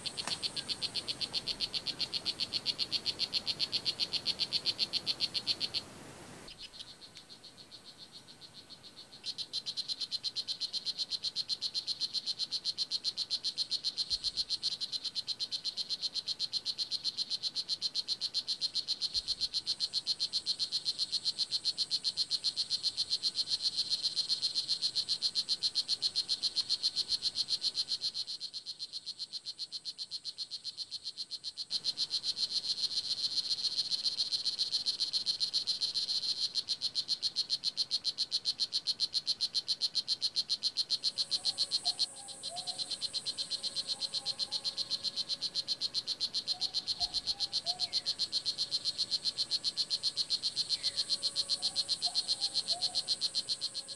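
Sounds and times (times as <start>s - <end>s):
frog calling with chirping pulses: 0.0s - 53.9s.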